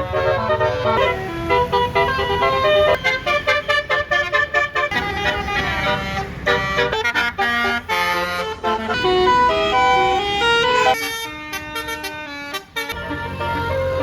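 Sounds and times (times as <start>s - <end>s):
bus engine rumble: 0.0s - 14.0s
musical bus horn melody: 0.0s - 14.0s.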